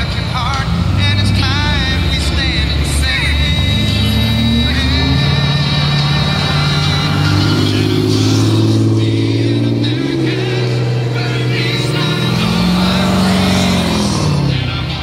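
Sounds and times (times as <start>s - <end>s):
pickup trucks driving past: 0.0s - 15.0s.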